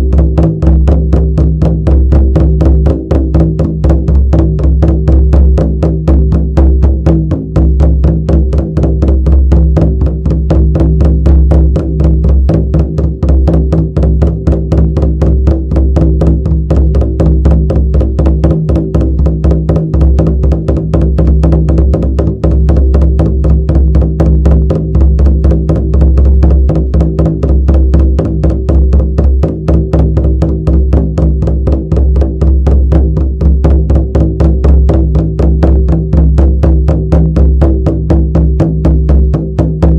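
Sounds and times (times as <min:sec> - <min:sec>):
frame drum beaten rapidly: 0:00.0 - 0:39.9.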